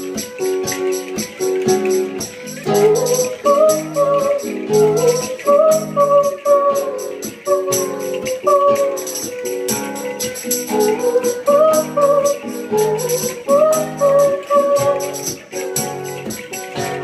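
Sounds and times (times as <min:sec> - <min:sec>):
high percussive beat: 0:00.0 - 0:17.0
strummed acoustic guitar: 0:00.0 - 0:17.0
woman singing: 0:02.2 - 0:17.0.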